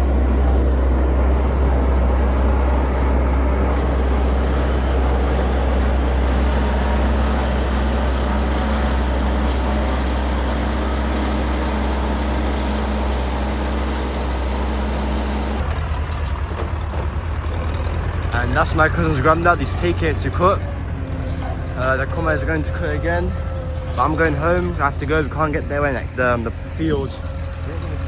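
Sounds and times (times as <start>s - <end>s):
heavy farm machine engine: 0.0s - 28.0s.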